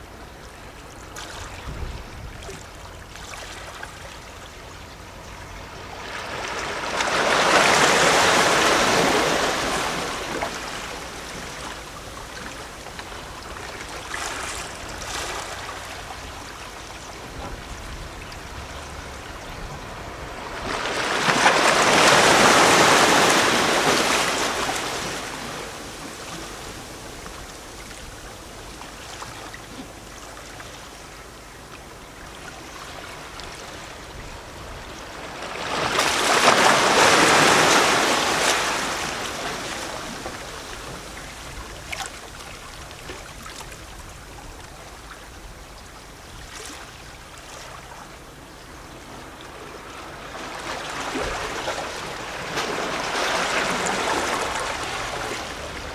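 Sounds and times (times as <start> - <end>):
waves lapping against rocks: 5.7 - 31.0, 31.6 - 55.9
larger waves washing in: 5.8 - 29.9, 32.5 - 55.9.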